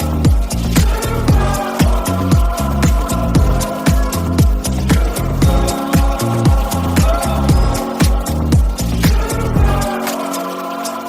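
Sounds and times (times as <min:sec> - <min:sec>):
instrumental dance-pop: 0:00.0 - 0:11.0.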